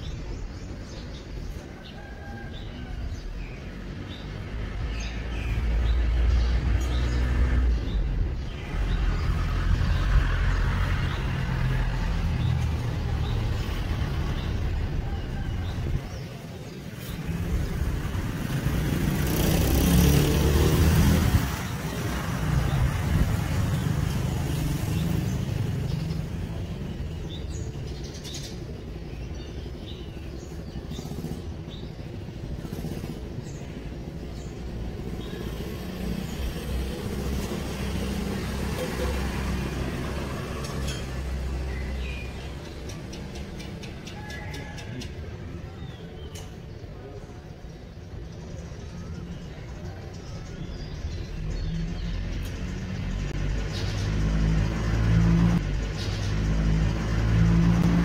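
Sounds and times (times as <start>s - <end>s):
road traffic rumble: 0.0s - 58.0s
vehicle passing close: 2.5s - 45.8s, 50.5s - 58.0s.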